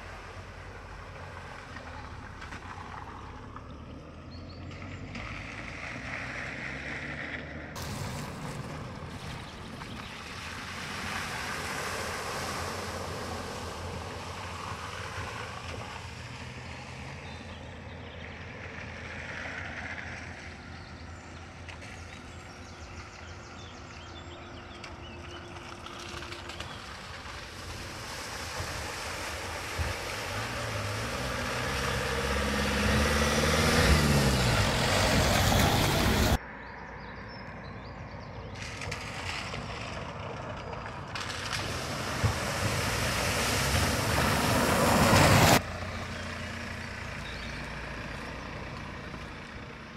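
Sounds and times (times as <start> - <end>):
water swishing off tyres: 0.0 - 36.4, 38.4 - 49.8
car engine pulling away: 0.0 - 49.9
van engine: 0.0 - 49.9.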